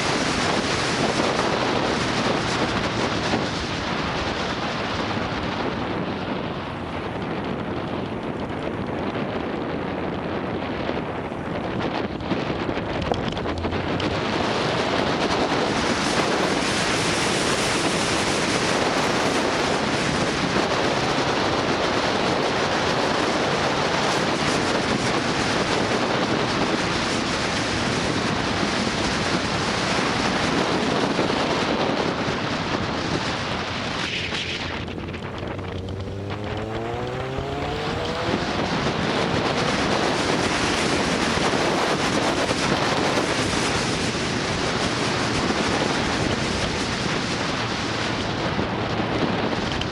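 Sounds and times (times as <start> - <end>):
motorcycle engine running: 0.0 - 29.9, 30.5 - 49.9
wind rushing over microphone: 0.0 - 49.9.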